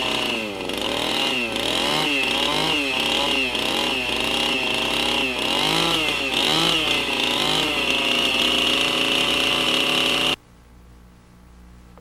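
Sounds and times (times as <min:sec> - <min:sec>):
chainsaw cutting log: 0:00.0 - 0:10.4.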